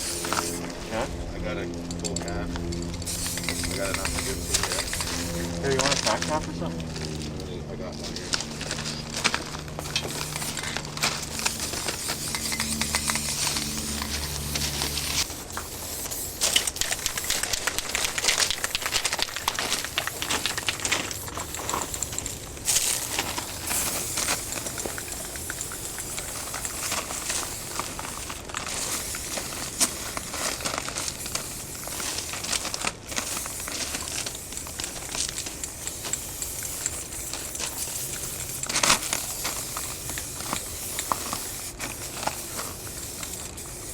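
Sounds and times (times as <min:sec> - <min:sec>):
spray paint can hissing: 0:00.0 - 0:00.6, 0:02.9 - 0:06.2, 0:08.6 - 0:43.9.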